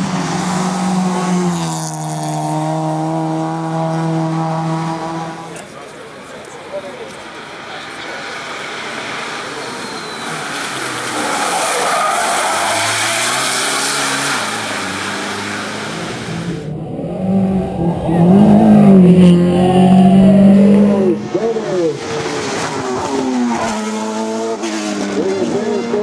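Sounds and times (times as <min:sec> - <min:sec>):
race car engine revving: 0:00.0 - 0:05.7, 0:07.4 - 0:26.0.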